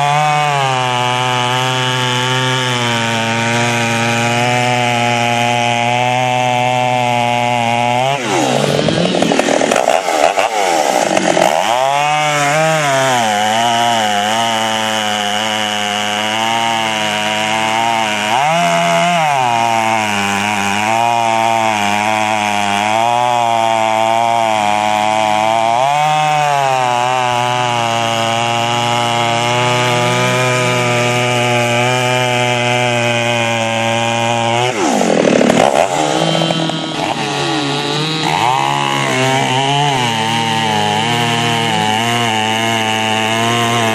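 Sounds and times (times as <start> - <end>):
chainsaw cutting log: 0.0 - 43.9.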